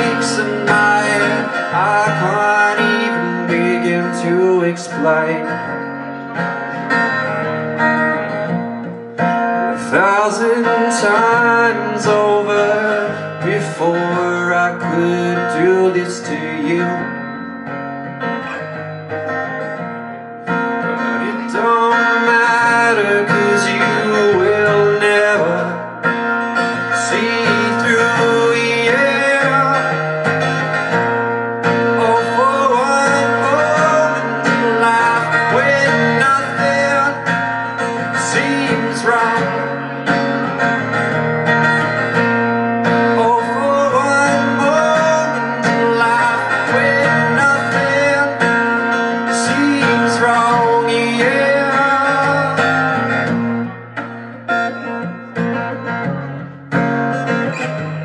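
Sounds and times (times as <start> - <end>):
man singing: 0.0 - 7.6, 9.5 - 17.6, 20.7 - 40.9, 41.8 - 53.8
acoustic guitar strumming: 0.0 - 58.0.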